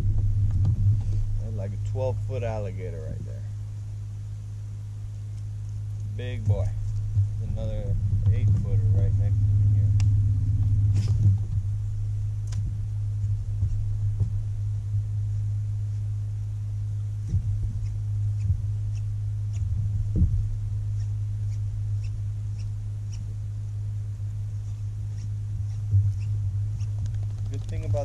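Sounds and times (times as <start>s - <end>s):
electric trolling motor humming: 0.0s - 28.0s.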